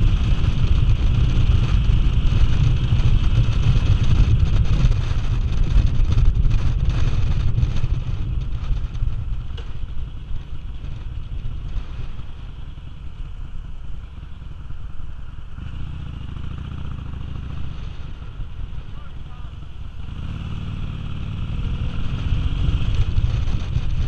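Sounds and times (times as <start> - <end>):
wind rush: 0.0 - 13.1, 15.4 - 24.0
motorcycle engine rumbling: 0.0 - 24.0.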